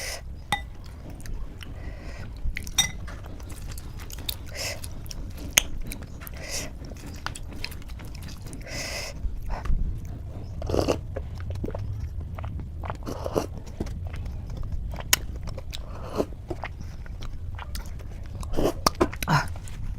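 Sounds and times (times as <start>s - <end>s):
person chewing food: 0.0s - 19.9s.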